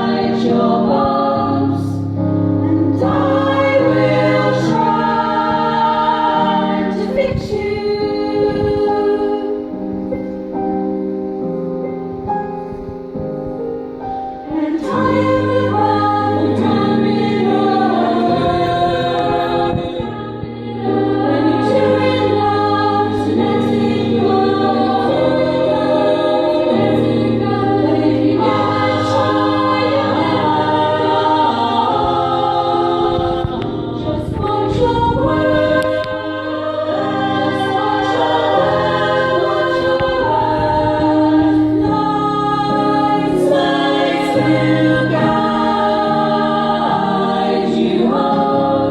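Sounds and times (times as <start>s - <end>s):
women's choir singing: 0.0s - 10.9s, 14.3s - 48.9s.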